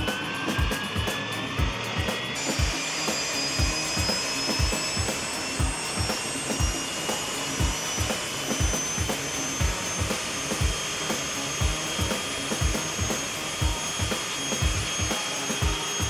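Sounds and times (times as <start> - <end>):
turbine high whine: 0.0 - 16.0.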